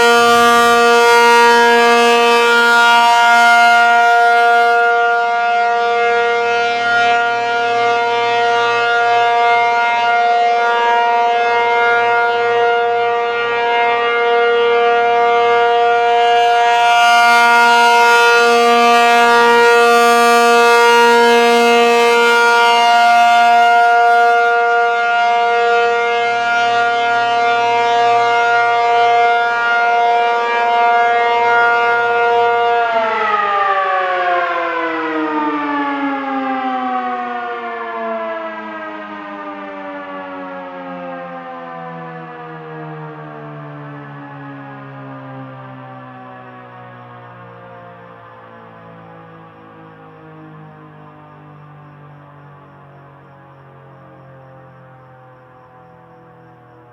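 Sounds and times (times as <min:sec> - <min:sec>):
outdoor warning siren sweeping: 0:00.0 - 0:56.9.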